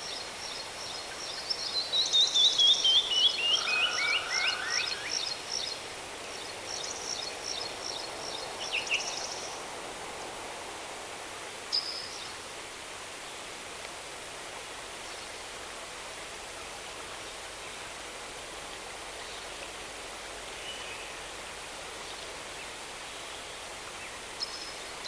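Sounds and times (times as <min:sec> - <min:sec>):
background hiss: 0:00.0 - 0:25.0.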